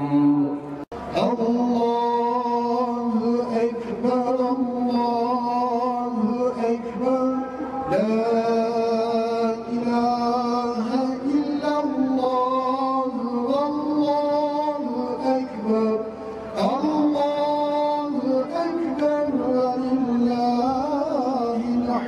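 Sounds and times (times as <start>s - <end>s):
person chanting melody: 0.0s - 22.0s.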